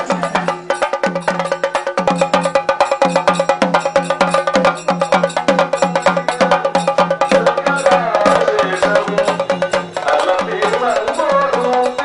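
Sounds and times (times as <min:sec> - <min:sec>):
drums beaten in fast rhythm: 0:00.0 - 0:12.0
wavering melody-like sound: 0:00.0 - 0:12.0.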